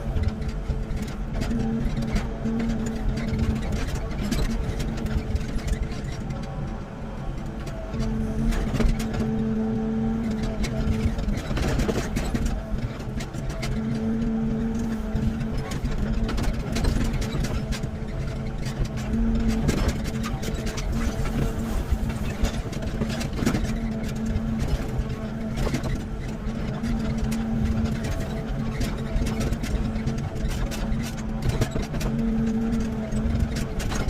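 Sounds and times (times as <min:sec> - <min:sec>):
excavator diesel engine: 0:00.0 - 0:34.0
excavator digging knocks and clanks: 0:00.0 - 0:34.0.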